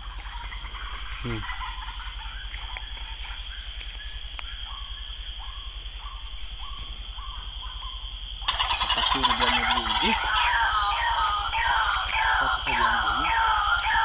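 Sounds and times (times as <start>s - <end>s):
night insects shrilling: 0.0s - 14.0s.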